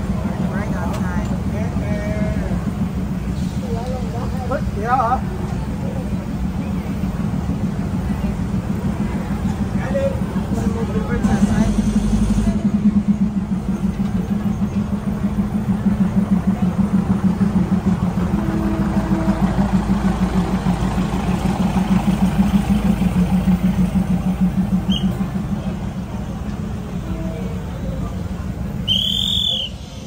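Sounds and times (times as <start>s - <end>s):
diesel train engine throbbing: 0.0s - 30.0s.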